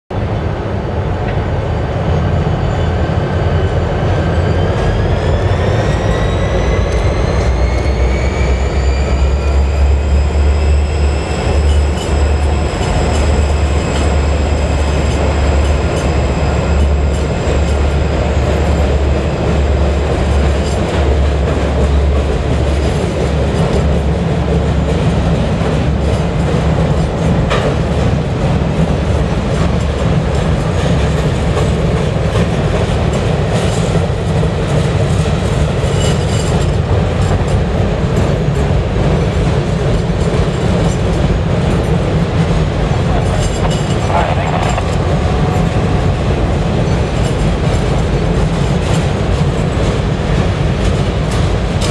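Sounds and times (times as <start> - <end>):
diesel locomotives high whine: 0.1 - 51.9
freight cars rumbling: 0.1 - 51.9.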